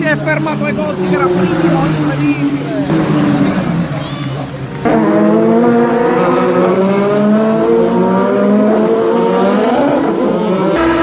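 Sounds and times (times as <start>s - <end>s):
racing car engine at full throttle: 0.0s - 11.0s.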